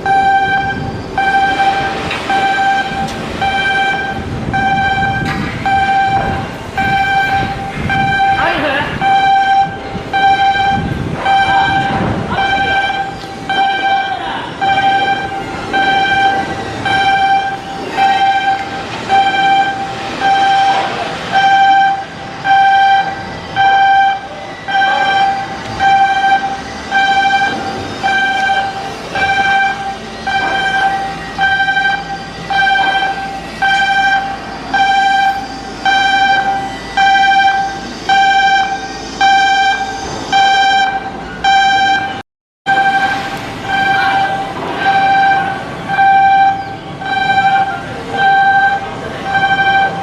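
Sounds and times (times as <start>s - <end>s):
warning alarm beeping: 0.0s - 50.0s.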